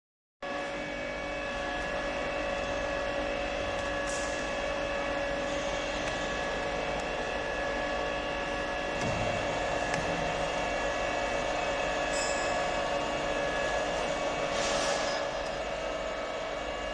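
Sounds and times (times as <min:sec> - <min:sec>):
bending machine humming and whining: 0:00.4 - 0:16.9.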